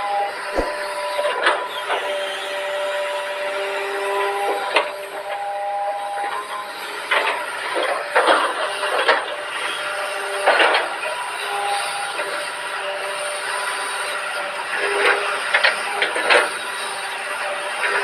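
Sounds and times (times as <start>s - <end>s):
excavator machine whine: 0.0s - 18.0s.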